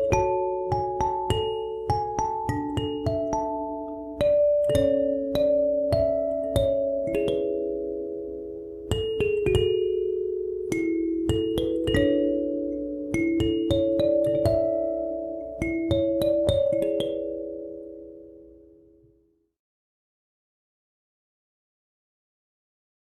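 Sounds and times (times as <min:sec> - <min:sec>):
kalimba melody: 0:00.0 - 0:18.9.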